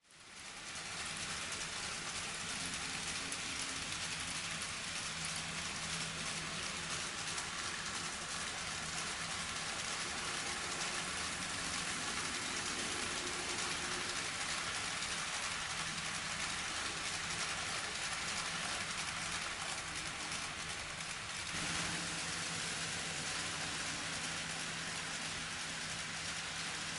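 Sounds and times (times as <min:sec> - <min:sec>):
model train wheels rattling: 0:00.0 - 0:26.9.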